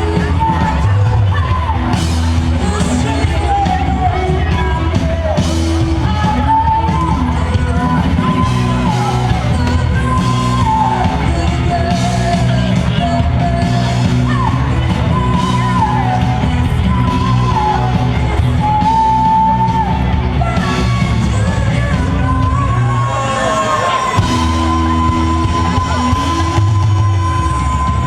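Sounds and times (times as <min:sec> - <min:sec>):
live amplified band music: 0:00.0 - 0:28.0.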